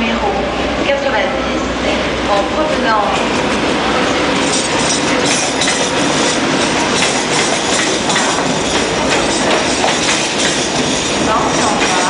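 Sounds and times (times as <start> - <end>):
train wheels rushing on rail: 0.1 - 12.0.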